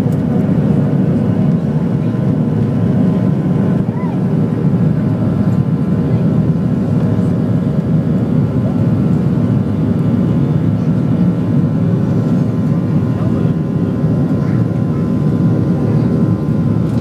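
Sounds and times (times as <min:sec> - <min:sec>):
jet engines rumbling in cabin: 0:00.0 - 0:17.0.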